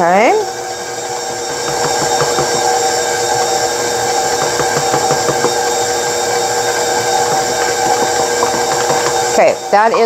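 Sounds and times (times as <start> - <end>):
beater knocking dough: 0.0 - 10.0
stand mixer motor whine: 0.0 - 10.0.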